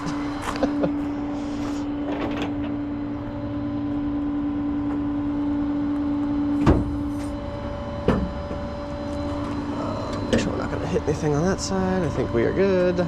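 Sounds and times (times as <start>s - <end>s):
faint high whine: 0.0s - 13.0s
hydraulic system whine: 0.0s - 13.0s.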